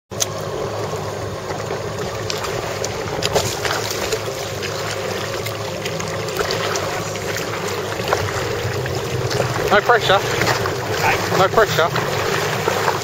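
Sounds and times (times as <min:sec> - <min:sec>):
jet ski engine idling: 0:00.1 - 0:13.0
water splashing against hull: 0:00.1 - 0:13.0.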